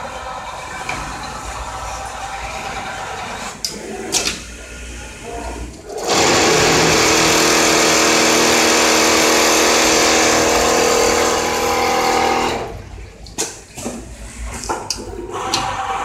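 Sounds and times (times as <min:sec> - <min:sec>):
sewing machine hissing hum: 0:00.0 - 0:12.8.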